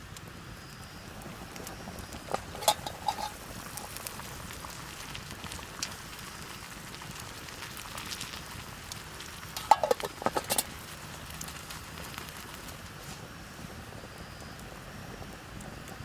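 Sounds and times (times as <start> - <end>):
campfire crackling and popping: 0.0 - 16.0
fire hissing: 0.0 - 16.0.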